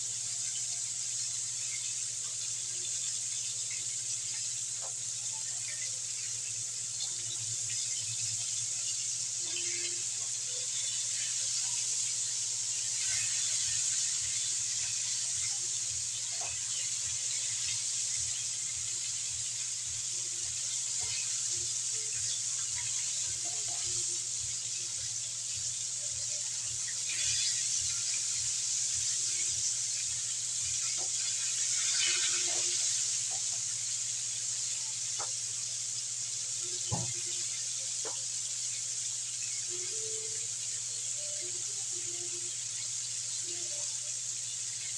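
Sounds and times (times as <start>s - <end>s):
chicken deep-frying in oil: 0.0s - 44.9s.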